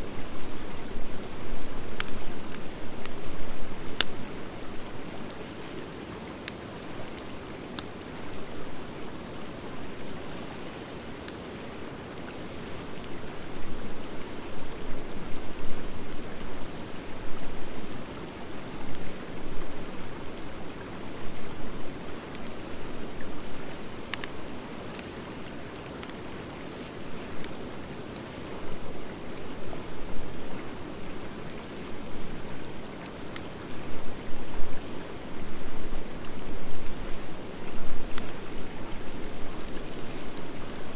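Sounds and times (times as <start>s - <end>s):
burning wood crackling: 0.0s - 40.9s.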